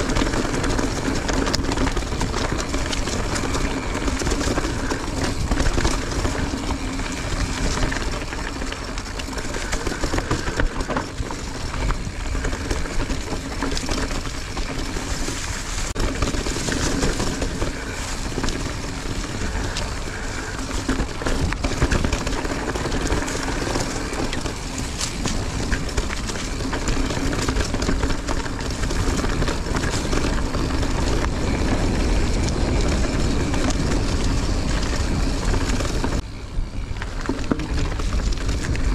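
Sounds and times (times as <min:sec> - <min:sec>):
bike rattling and clicking: 0:00.0 - 0:38.9
bike tyres rumbling on dirt: 0:00.0 - 0:38.9.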